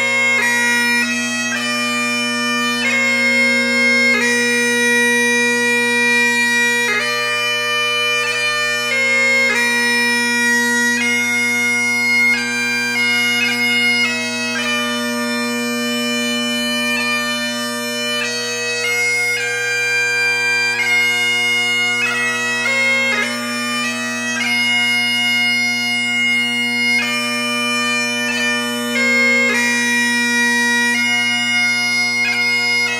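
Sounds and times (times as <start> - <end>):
bagpipe music: 0.0 - 32.9.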